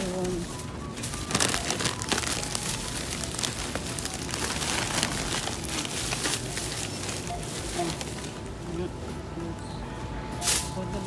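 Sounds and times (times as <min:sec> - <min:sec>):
plastic bag rustling and crinkling: 0:00.0 - 0:08.8, 0:10.4 - 0:11.0.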